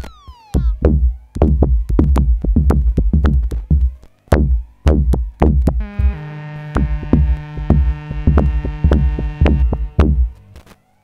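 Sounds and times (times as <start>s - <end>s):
drum machine electronic hits: 0.0s - 10.4s
held synthesizer chord: 0.2s - 10.6s.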